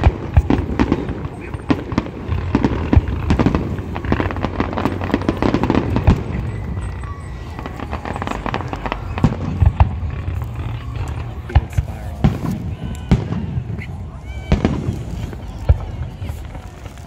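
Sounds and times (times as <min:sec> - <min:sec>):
fireworks popping and crackling: 0:00.0 - 0:17.0
loud fireworks bangs: 0:00.0 - 0:17.0.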